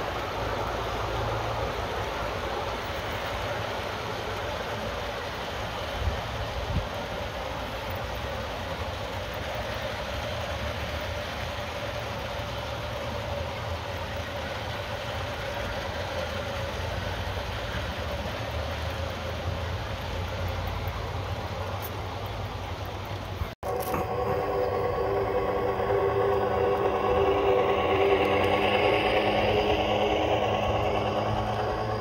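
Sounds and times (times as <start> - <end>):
faint steady hum: 0.0 - 32.0
model train rumbling on track: 0.0 - 32.0.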